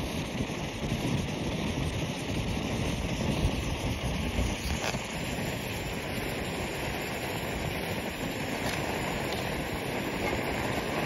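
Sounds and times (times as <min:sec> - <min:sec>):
camp stove rushing: 0:00.0 - 0:11.0
wind buffeting microphone: 0:00.0 - 0:11.0.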